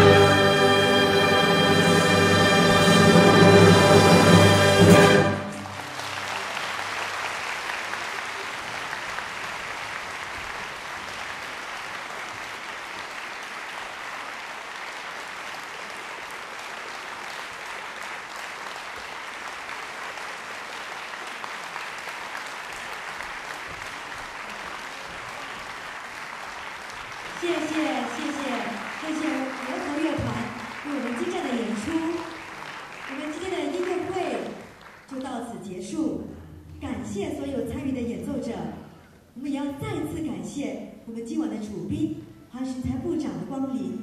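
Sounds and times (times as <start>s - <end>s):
audience applauding: 0.0s - 35.3s.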